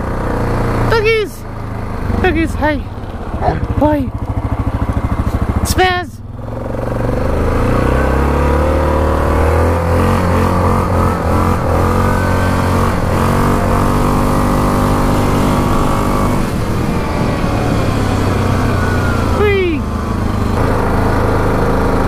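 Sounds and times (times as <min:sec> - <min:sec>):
atv engine revving: 0:00.0 - 0:22.0.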